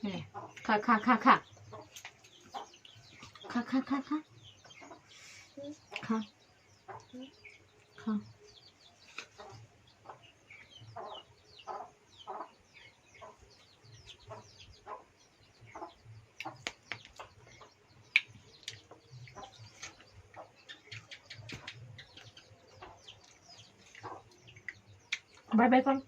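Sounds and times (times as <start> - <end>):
chickens clucking: 0.0 - 26.0
small birds chirping: 0.0 - 26.0.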